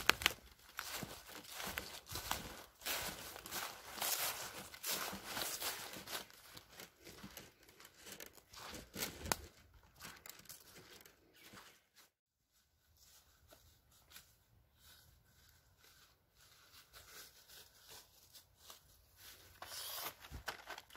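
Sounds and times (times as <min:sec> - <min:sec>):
footsteps crunching dry leaves: 0:00.0 - 0:19.6.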